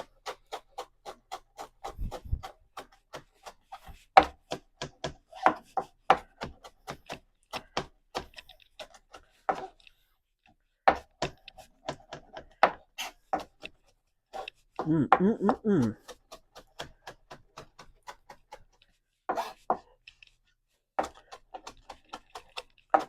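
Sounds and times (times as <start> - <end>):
knife chopping on cutting board: 0.0 - 9.8, 10.8 - 20.0, 21.0 - 23.0.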